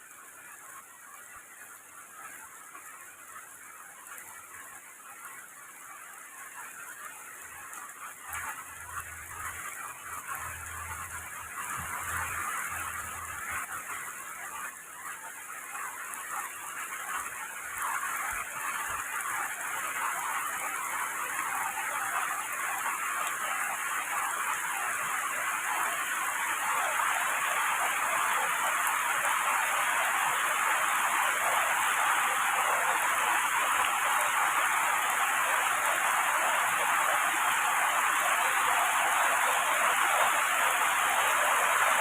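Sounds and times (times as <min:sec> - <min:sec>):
heavy rain on foliage: 0:00.0 - 0:42.0.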